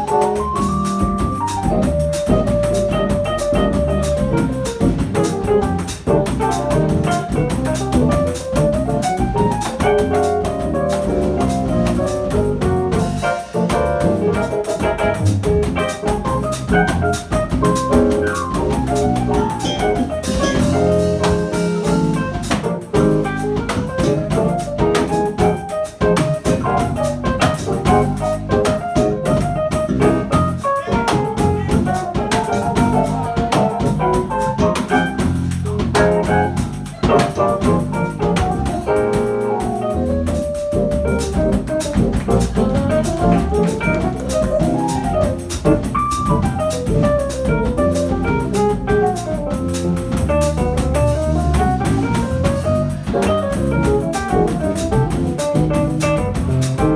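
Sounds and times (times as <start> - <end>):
bass: 0.0 - 56.9
drums: 0.0 - 56.9
pandeiro: 0.0 - 56.9
piano: 0.0 - 56.9.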